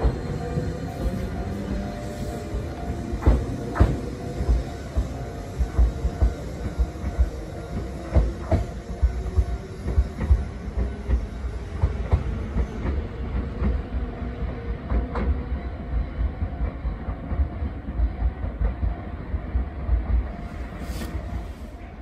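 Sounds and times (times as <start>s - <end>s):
train rumbling away: 0.0s - 22.0s.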